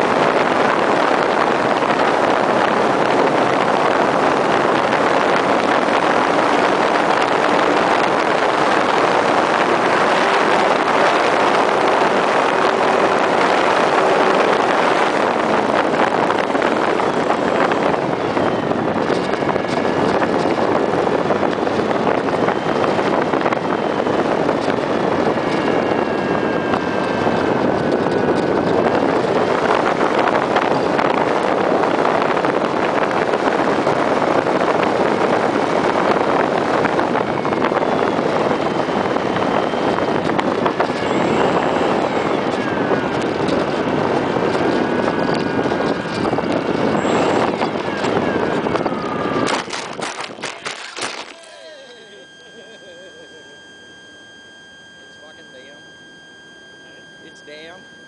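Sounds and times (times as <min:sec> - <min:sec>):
wind rush on microphone: 0:00.0 - 0:51.3
electric motor whine: 0:00.0 - 0:58.0.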